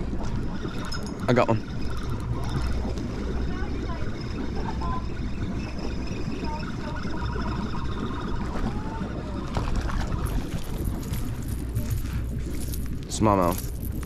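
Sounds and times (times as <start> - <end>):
fish splashing in water: 0.0 - 14.0
wind buffeting microphone: 0.0 - 14.0.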